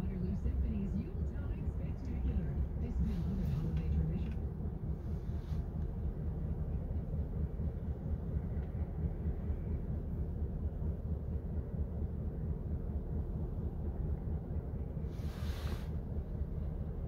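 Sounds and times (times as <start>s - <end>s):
distant diesel locomotive rumble: 0.0s - 17.0s.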